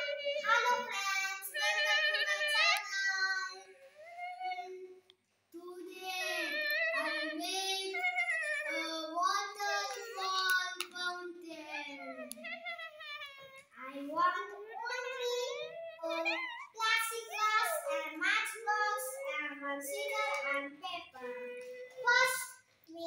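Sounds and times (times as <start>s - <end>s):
child singing: 0.0s - 5.0s, 5.6s - 23.0s.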